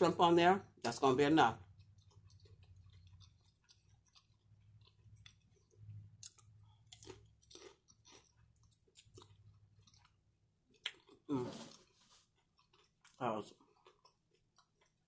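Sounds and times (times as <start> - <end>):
chewing crunchy chips: 1.5 - 15.0.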